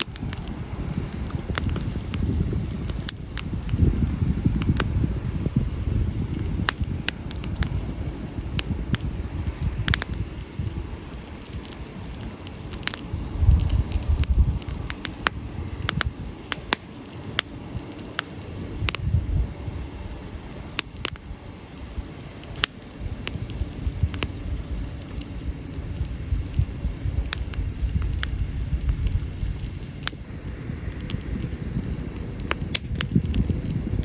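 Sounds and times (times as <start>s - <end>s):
campfire crackling and popping: 0.0s - 34.0s
low fire rumble: 0.0s - 34.0s.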